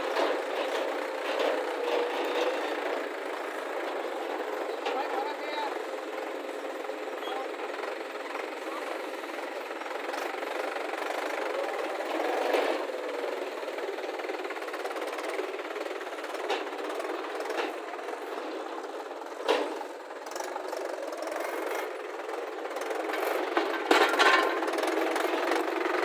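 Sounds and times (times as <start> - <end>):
diesel machinery engine running: 0.0 - 26.0.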